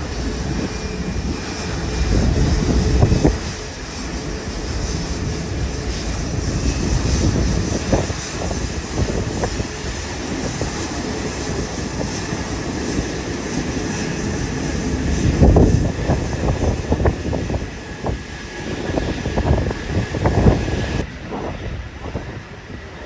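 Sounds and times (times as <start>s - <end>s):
jet engines running: 0.0s - 23.0s
wind buffeting microphone: 0.0s - 23.0s.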